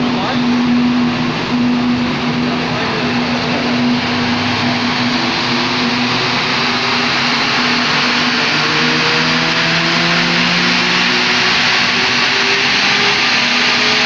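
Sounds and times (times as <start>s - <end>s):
car engine under load: 0.0s - 14.0s
loud steady rushing noise: 0.0s - 14.0s.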